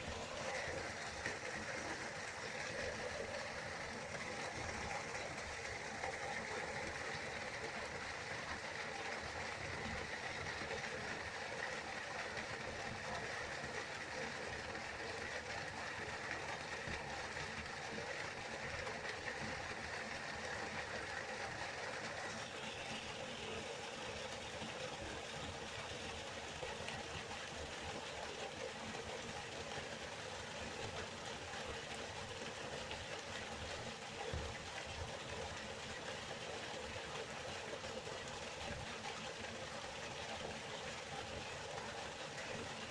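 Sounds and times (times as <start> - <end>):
river water flowing: 0.0 - 42.9.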